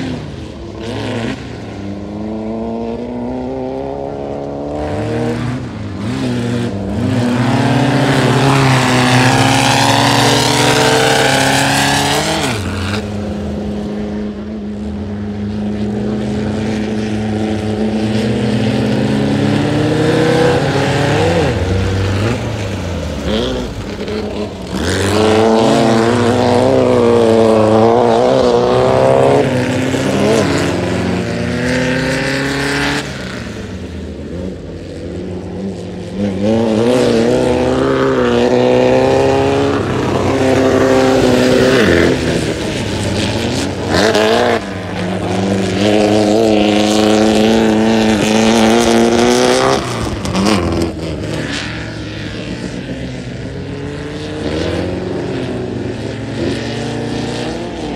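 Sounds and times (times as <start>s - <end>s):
buggy engine revving hard: 0.0s - 57.9s.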